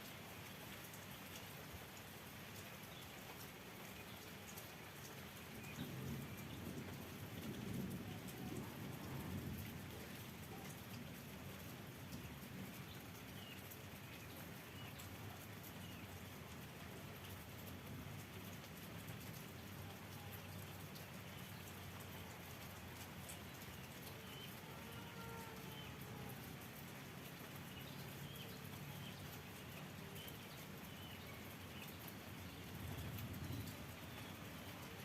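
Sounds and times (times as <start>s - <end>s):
light rain pattering: 0.0s - 35.0s.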